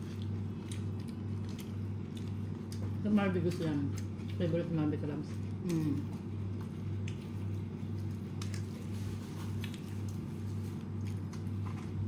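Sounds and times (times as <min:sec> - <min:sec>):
fried chicken crackling and crunching: 0:00.0 - 0:04.4, 0:05.4 - 0:12.0
steady low hum: 0:00.0 - 0:12.0.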